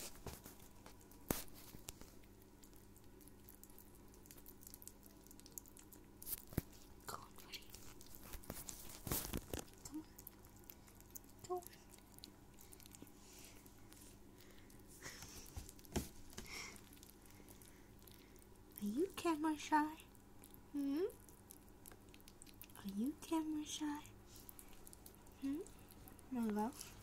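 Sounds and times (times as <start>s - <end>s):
kittens chewing and lapping food: 0.0s - 27.0s.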